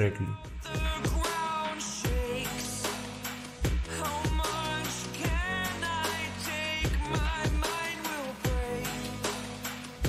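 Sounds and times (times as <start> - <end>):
pop music with drum beat: 0.0 - 10.0.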